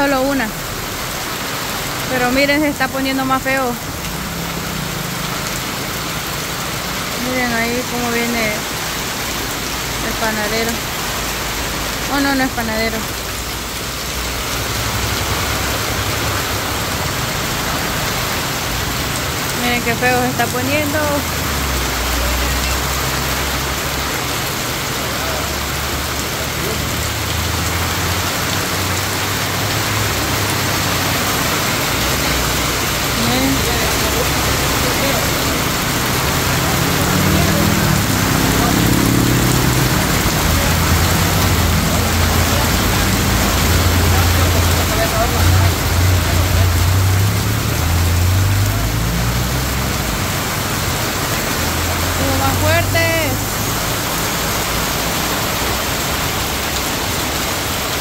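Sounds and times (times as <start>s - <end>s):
heavy rain pouring: 0.0s - 58.0s
vehicle engine rumble: 0.0s - 58.0s.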